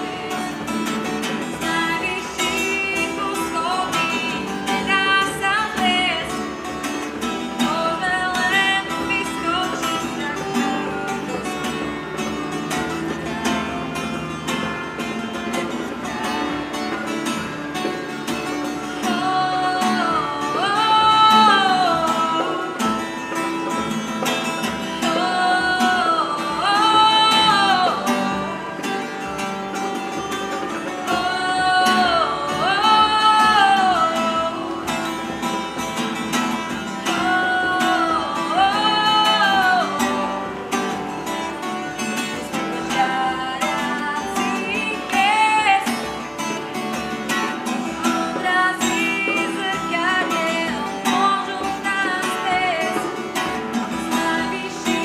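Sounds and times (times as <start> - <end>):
strummed acoustic guitar: 0.0 - 55.0
woman singing: 0.0 - 55.0.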